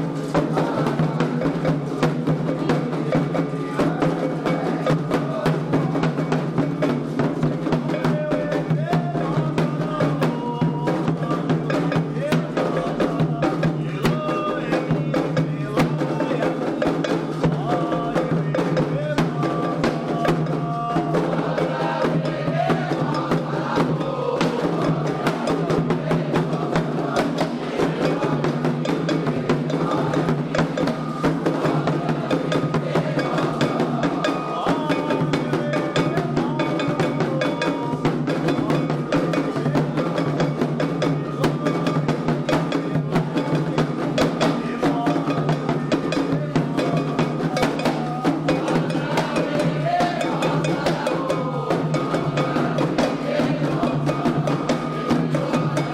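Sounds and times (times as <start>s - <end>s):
hand drums and percussion: 0.0s - 55.9s
voices chanting a song: 0.0s - 55.9s.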